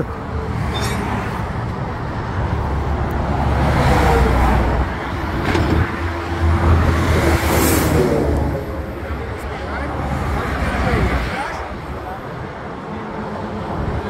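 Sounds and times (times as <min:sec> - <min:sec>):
highway traffic passing: 0:00.0 - 0:14.0.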